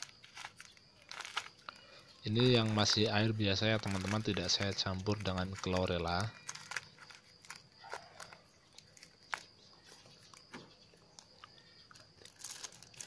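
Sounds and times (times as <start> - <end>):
plastic bag crinkling: 0.0 - 10.4, 11.2 - 13.0.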